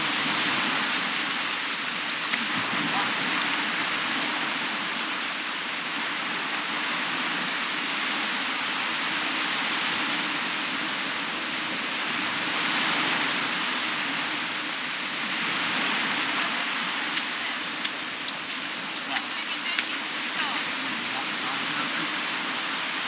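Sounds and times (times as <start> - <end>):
waves washing up a sandy beach: 0.0 - 23.0.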